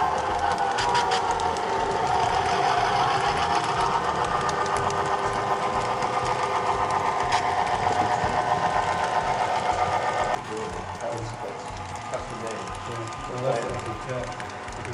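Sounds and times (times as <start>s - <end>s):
model train motor whir: 0.0s - 14.9s
wheels rattling on rails: 0.0s - 14.9s.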